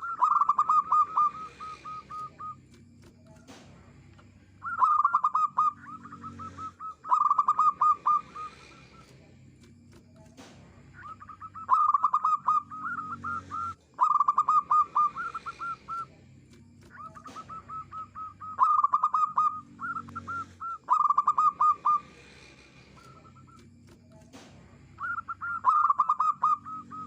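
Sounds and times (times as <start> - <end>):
dove cooing: 0.0 - 3.7, 4.5 - 9.3, 9.9 - 27.0.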